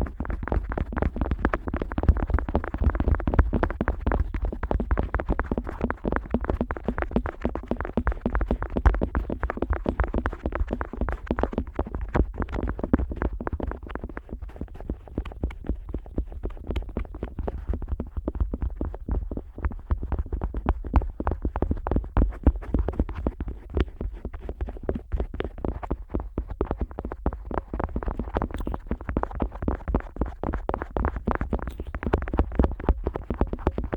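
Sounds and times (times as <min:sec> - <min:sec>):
scratchy crackling on microphone ear: 0:00.0 - 0:33.9.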